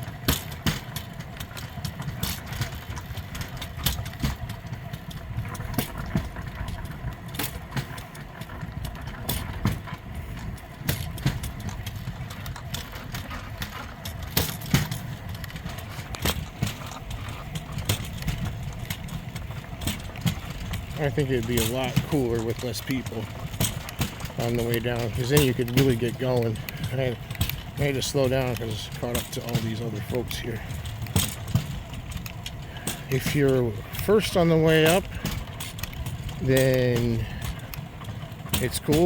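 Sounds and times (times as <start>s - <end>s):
rail bike wheels rumbling: 0.0s - 39.0s
wheels clacking over rail joints: 0.0s - 39.0s.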